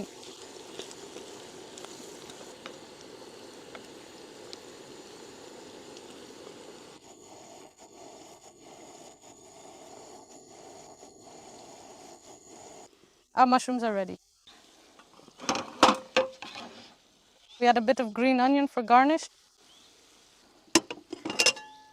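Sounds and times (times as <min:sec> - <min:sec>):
mushrooms sizzling in butter: 0:00.0 - 0:21.9.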